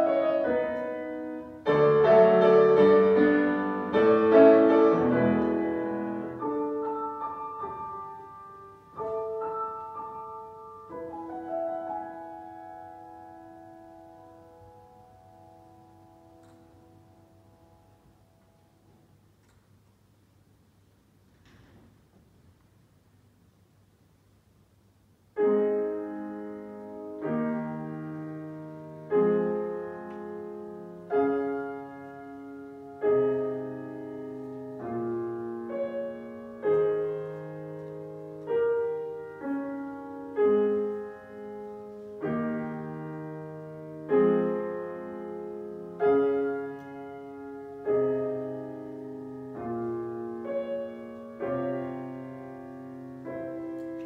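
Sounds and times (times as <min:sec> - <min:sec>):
slow grand piano chords: 0:00.0 - 0:23.6, 0:25.2 - 0:54.0.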